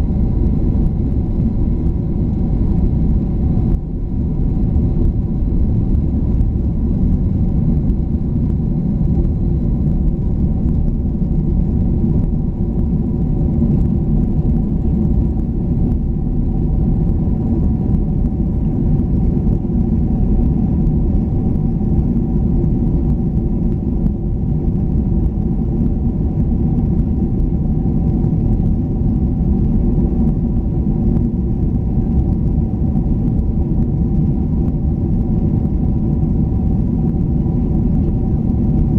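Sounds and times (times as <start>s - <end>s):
jet airliner cabin rumble: 0.0s - 38.9s.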